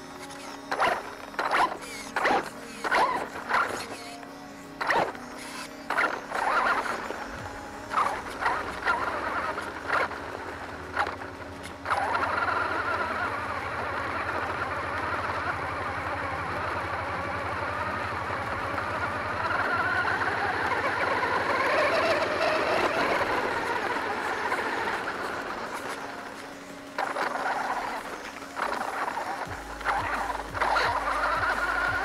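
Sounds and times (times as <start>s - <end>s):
toy truck motor whine: 0.0s - 32.0s
tyres on gravel: 0.0s - 32.0s.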